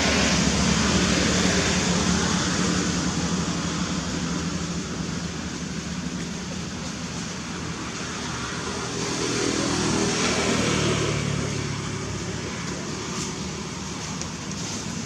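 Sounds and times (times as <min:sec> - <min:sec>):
vehicle passing by: 0:00.0 - 0:06.1, 0:07.2 - 0:15.0
road traffic noise: 0:00.0 - 0:15.0.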